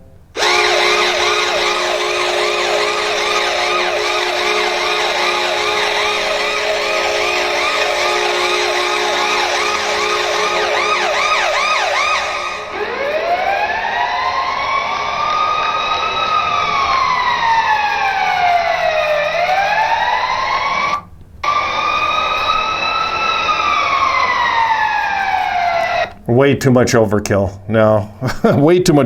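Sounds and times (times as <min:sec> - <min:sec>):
goal horn chord: 0:00.0 - 0:26.2
siren winding up: 0:00.4 - 0:26.2
siren-like whoops: 0:00.4 - 0:26.2.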